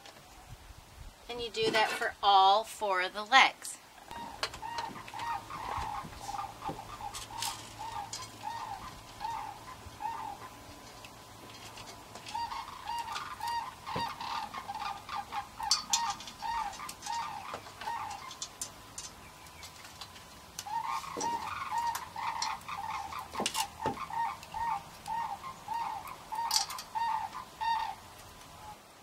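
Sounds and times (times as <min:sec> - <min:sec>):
cranes calling: 0:04.0 - 0:28.8.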